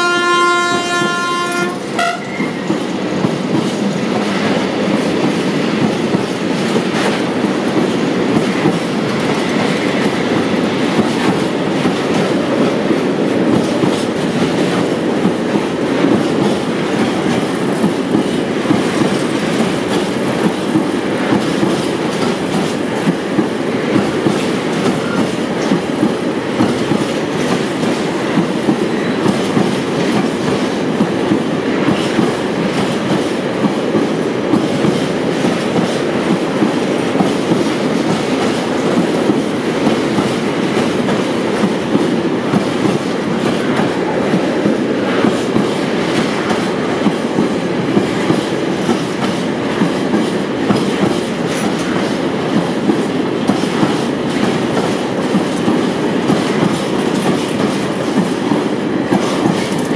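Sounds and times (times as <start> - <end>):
freight train wheels rolling: 0.0 - 59.9
wheels clacking over rail joints: 0.0 - 59.9.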